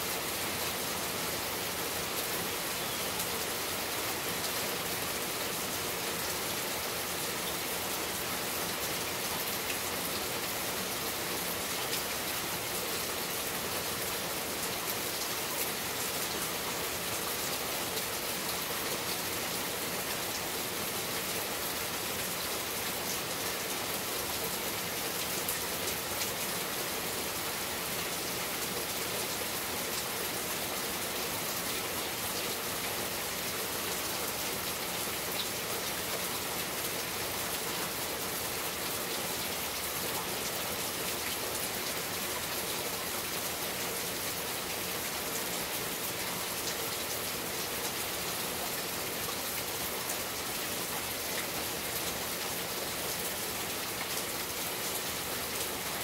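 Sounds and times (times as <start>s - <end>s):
rain falling on trees: 0.0s - 56.0s.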